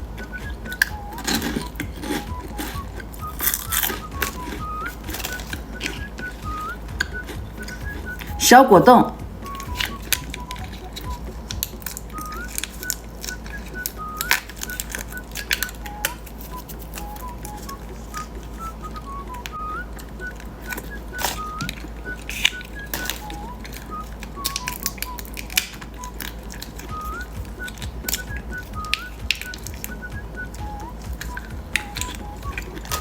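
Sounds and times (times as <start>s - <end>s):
high whistle-like background tune: 0.0s - 33.0s
candy wrapper crackling: 0.2s - 8.4s, 9.5s - 30.1s.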